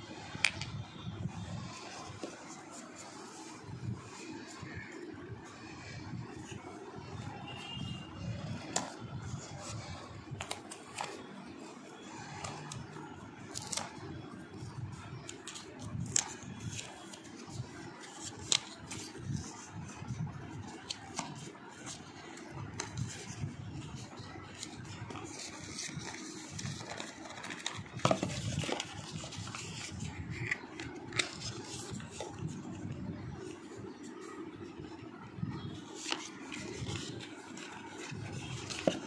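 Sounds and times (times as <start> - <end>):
cardboard rustling and scraping: 7.6 - 39.0.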